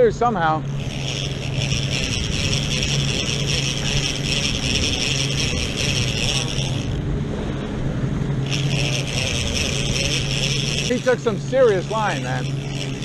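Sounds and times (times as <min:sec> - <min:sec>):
boat engine humming: 0:00.0 - 0:13.0
fishing reel drag buzzing: 0:00.0 - 0:13.0.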